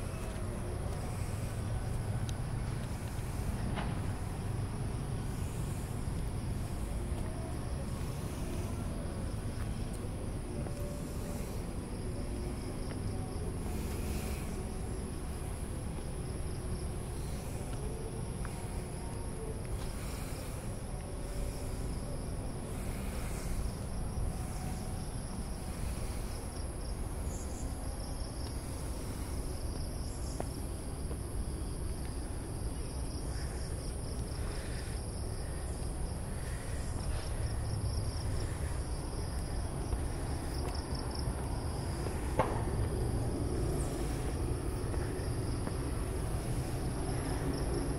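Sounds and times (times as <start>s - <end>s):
faint footsteps: 0.0s - 26.4s, 27.1s - 47.9s
crickets trilling: 0.0s - 47.9s.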